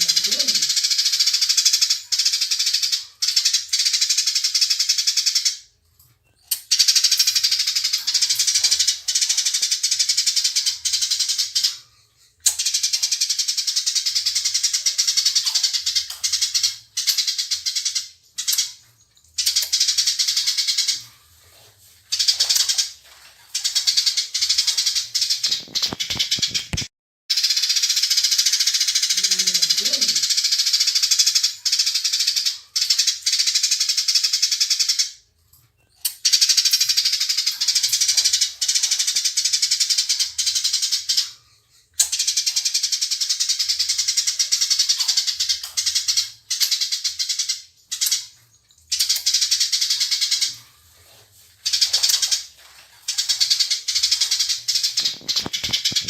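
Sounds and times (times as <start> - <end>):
sparrows chattering: 0.0 - 5.6, 6.7 - 35.1, 36.2 - 56.0.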